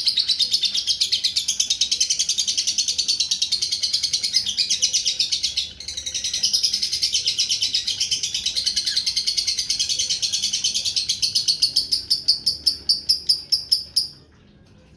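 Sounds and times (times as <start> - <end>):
lovebird chattering trill: 0.2 - 14.2.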